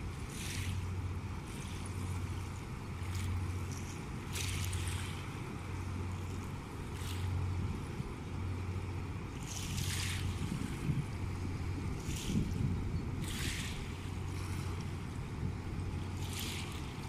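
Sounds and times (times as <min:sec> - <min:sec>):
ship engines droning: 0:00.0 - 0:17.0
small waves splashing: 0:00.0 - 0:17.0.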